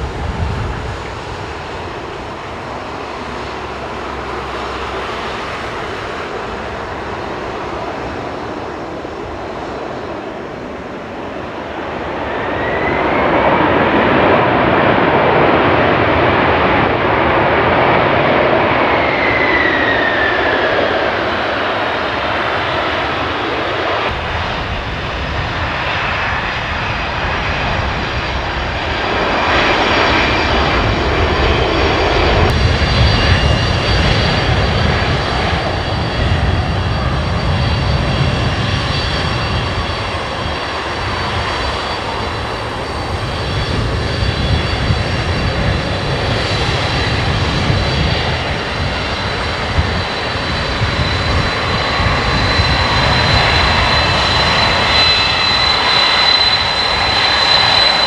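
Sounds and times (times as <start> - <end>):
high engine whine: 0.0 - 58.0
jet engines roaring: 0.0 - 58.0.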